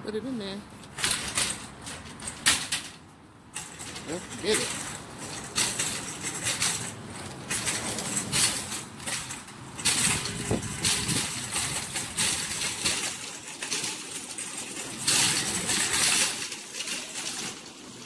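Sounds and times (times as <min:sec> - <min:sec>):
shopping cart rattling on concrete: 0:00.9 - 0:18.0.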